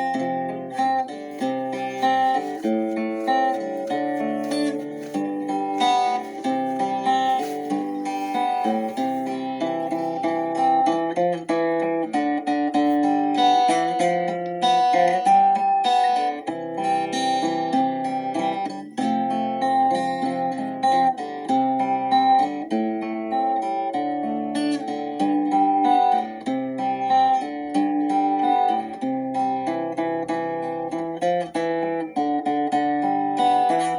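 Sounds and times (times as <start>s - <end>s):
plucked acoustic guitar melody: 0.0s - 33.9s.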